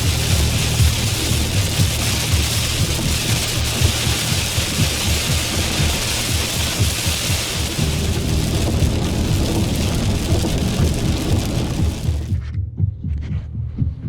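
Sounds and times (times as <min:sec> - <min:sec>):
heavy rain pouring: 0:00.0 - 0:12.4
low thunder rumble: 0:00.0 - 0:12.4.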